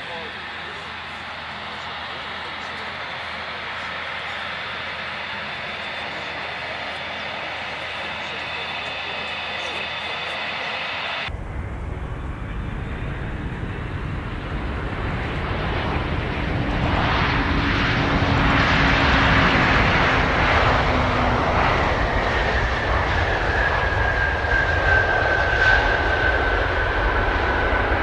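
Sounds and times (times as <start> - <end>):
jet engines passing low: 0.0 - 28.0.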